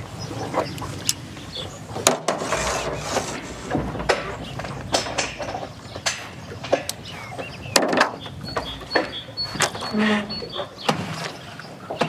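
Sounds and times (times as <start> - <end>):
knocks and clunks in boat: 0.0 - 12.0.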